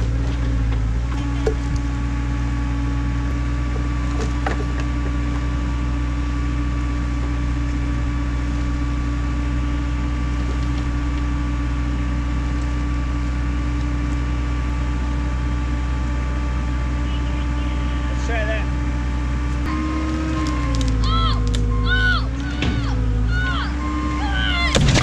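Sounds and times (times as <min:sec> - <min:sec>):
skid steer engine droning: 0:00.0 - 0:25.0.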